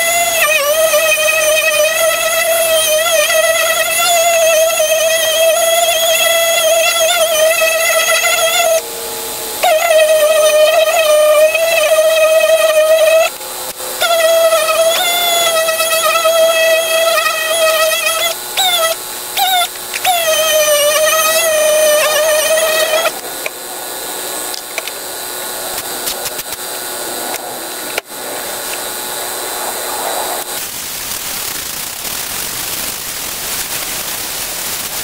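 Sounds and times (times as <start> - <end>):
workshop noise hiss: 0.0 - 35.0.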